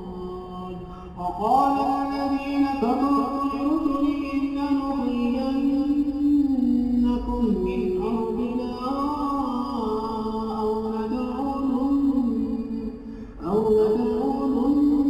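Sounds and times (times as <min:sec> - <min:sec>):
man chanting with echo: 0:00.0 - 0:15.0.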